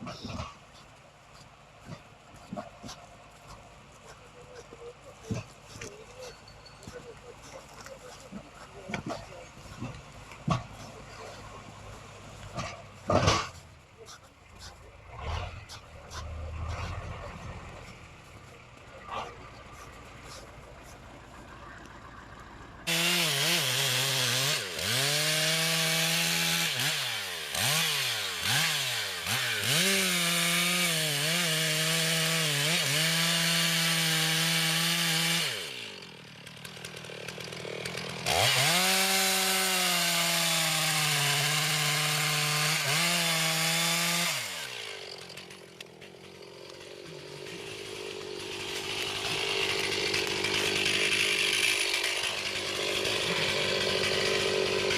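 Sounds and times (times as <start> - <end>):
chainsaw cutting wood: 0.0 - 21.2, 22.8 - 54.9.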